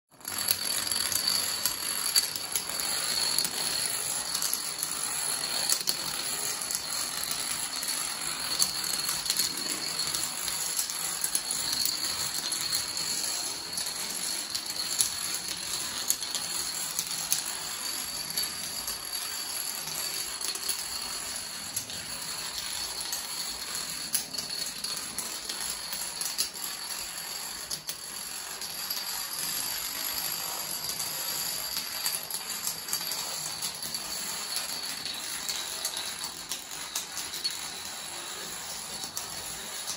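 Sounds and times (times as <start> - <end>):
plastic dominoes clattering: 0.2 - 39.9.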